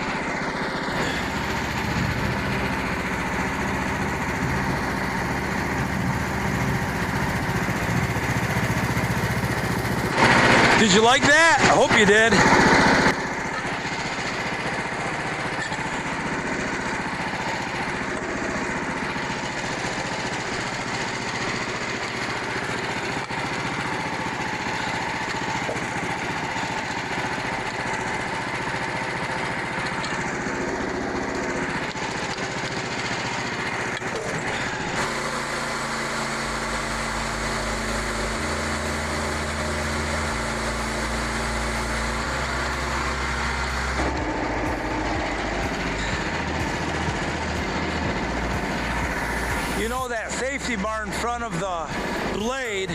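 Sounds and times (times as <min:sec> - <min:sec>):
band sawmill sawing log: 0:00.0 - 0:52.9.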